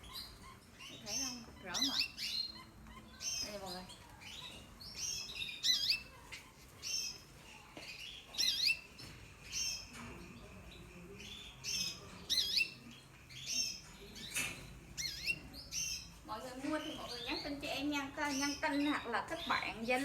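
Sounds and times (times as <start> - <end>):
canaries chirping: 0.0 - 20.0.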